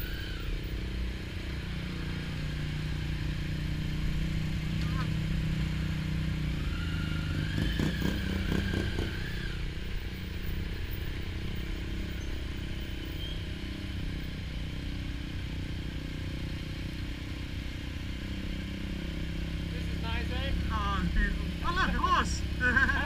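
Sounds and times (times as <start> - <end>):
motorcycle accelerating whine: 0.0 - 23.0
motorcycle engine low drone: 0.0 - 23.0.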